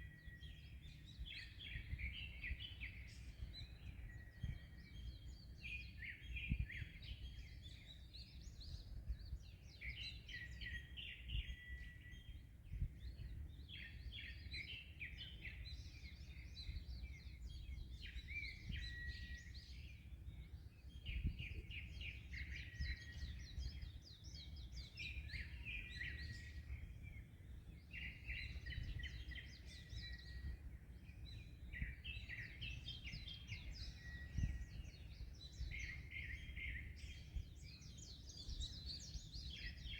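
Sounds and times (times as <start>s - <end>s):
songbirds chattering: 0.0s - 39.9s
whistled bird notes: 0.0s - 39.9s
wind: 0.0s - 39.9s.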